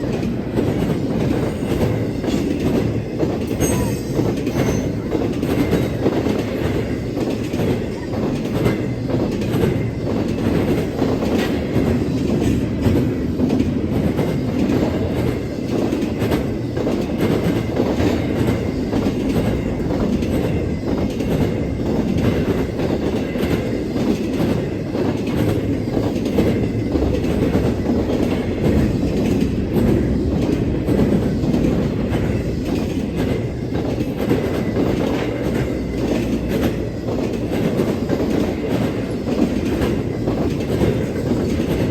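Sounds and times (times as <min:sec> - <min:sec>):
freight train rumbling past: 0:00.0 - 0:41.9
train wheels clacking on rail joints: 0:00.0 - 0:41.9.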